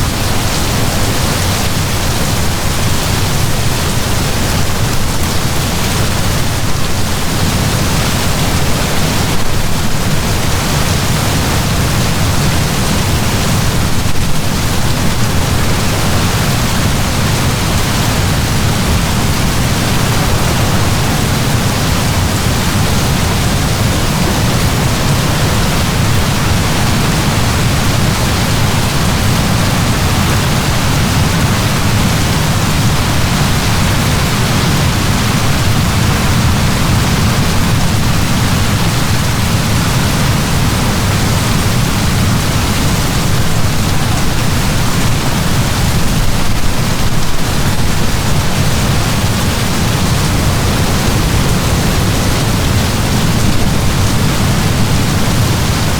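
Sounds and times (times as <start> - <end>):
heavy rain downpour: 0.0 - 55.9.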